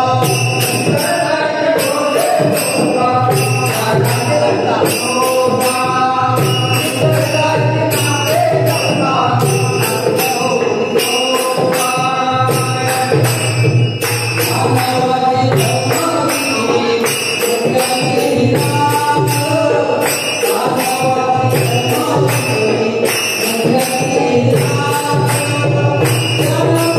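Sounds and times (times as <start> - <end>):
jingling hand cymbals: 0.0 - 26.9
voices singing: 0.0 - 26.9.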